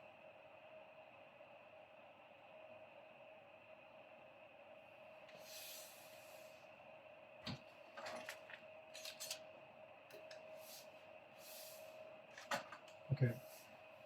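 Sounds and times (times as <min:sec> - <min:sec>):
low steady hum and hiss: 0:00.0 - 0:14.0.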